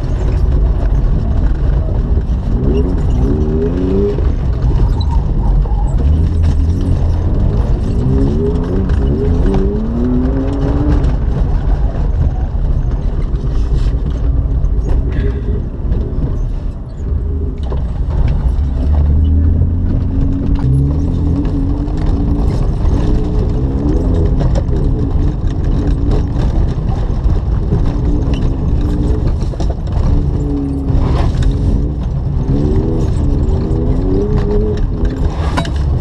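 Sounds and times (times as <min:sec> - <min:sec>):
car engine accelerating: 0:00.0 - 0:36.0
gravel knocks and clicks: 0:00.0 - 0:36.0.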